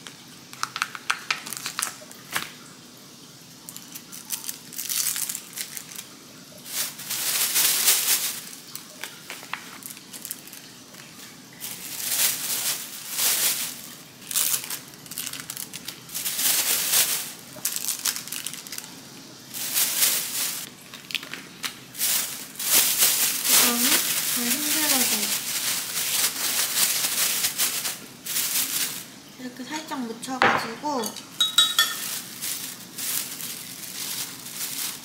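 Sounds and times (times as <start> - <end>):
thin plastic crinkling: 0.0 - 2.8, 3.6 - 35.0.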